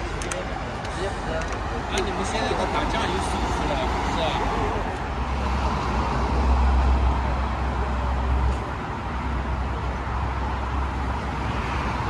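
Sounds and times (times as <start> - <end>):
car tyre road noise: 0.0 - 12.0.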